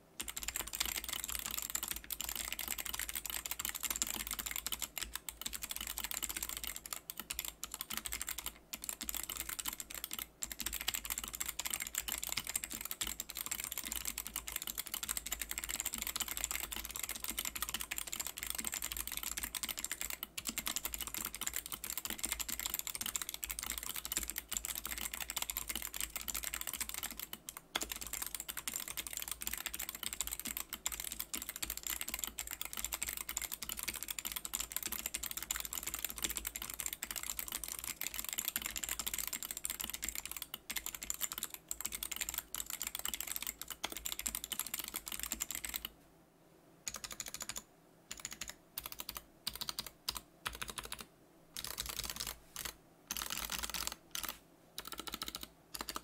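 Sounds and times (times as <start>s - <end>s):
mechanical keyboard typing: 0.2s - 45.9s, 46.9s - 56.0s.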